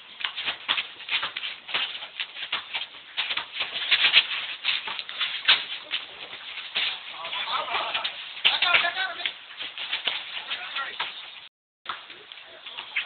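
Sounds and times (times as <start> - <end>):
sneakers tapping on asphalt: 0.0 - 13.0.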